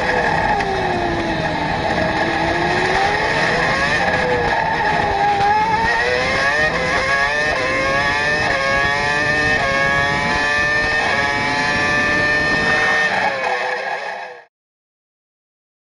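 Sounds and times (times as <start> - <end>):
racing car engine upshifting: 0.0 - 14.4.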